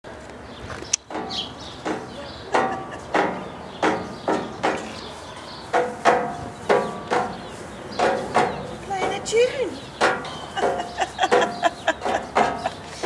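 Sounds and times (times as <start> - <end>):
ostrich pecking metal rail: 0.9 - 13.0.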